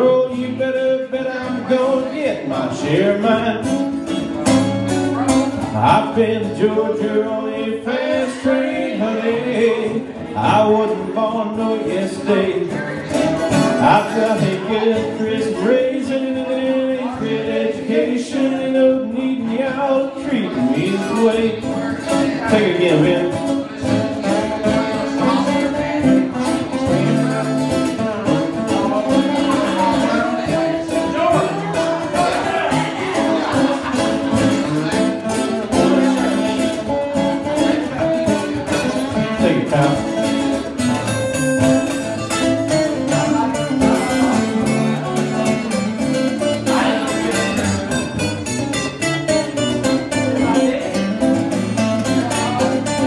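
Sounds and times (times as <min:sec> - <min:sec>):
picked acoustic guitar lead: 0:00.0 - 0:53.0
strummed guitar rhythm: 0:00.0 - 0:53.0.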